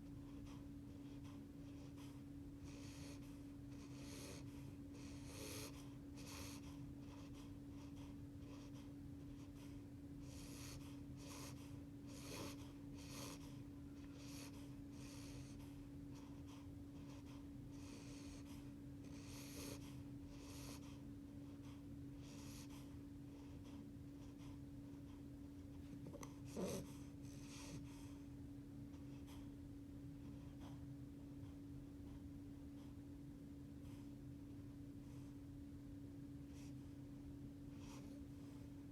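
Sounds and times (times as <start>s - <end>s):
puppy breathing and snoring: 0.0s - 38.9s
steady low hum: 0.0s - 38.9s.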